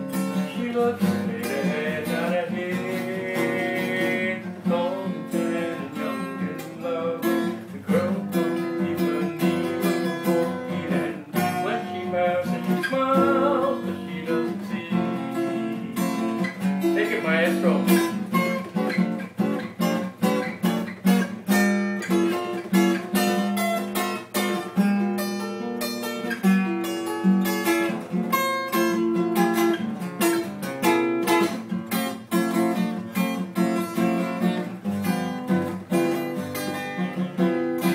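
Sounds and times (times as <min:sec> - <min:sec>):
acoustic guitar chords: 0:00.0 - 0:37.9.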